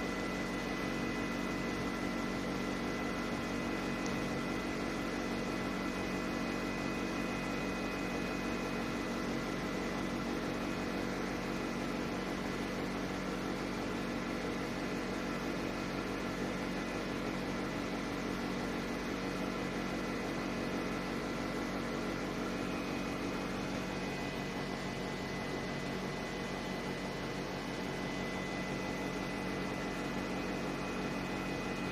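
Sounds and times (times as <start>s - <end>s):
air conditioner fan noise: 0.0s - 31.9s.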